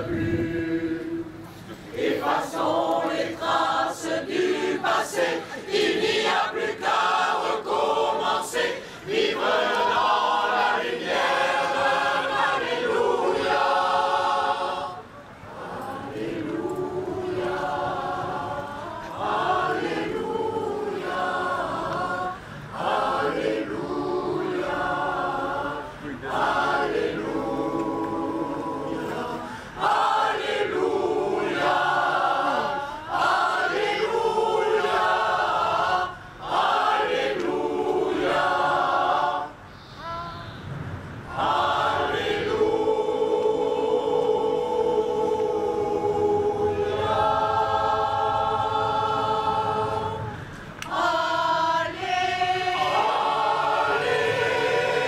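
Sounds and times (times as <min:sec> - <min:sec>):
mixed choir singing unaccompanied: 0:00.0 - 0:55.0.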